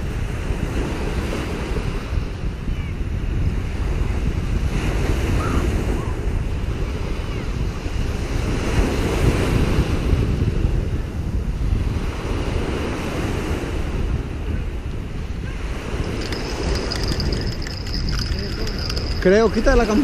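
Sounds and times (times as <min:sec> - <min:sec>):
waves breaking on a beach: 0:00.0 - 0:20.0
wind buffeting microphone: 0:00.0 - 0:20.0.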